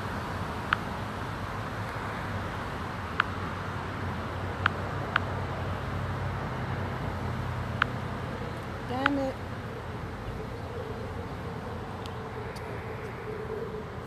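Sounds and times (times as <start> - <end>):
background hiss: 0.0 - 14.0
steady low hum: 0.0 - 14.0.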